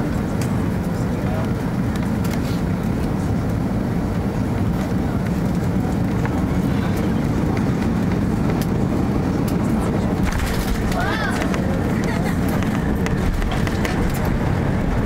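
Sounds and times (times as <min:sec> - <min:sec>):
airplane cabin low roar: 0:00.0 - 0:15.0.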